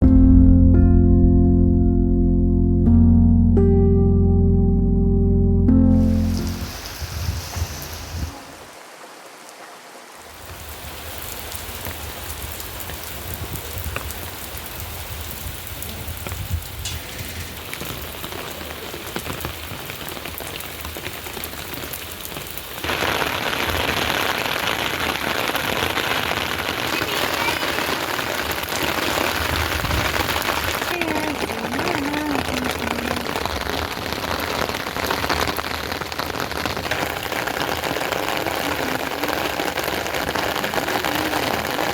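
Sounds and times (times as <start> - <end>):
steady rain falling: 5.8 - 41.9.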